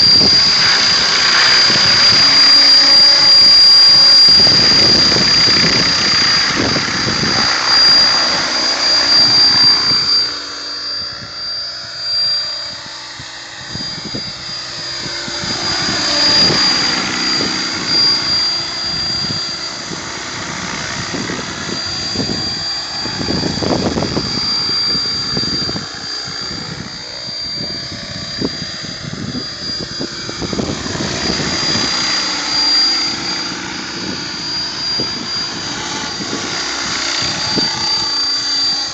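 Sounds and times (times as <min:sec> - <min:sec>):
high-pitched electric whine: 0:00.0 - 0:38.9
rotor blades whooshing: 0:00.0 - 0:38.9.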